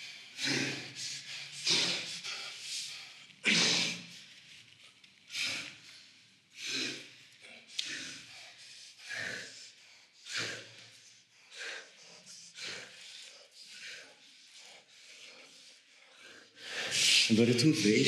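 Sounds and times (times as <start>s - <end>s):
man breathing heavily: 0.0s - 18.0s.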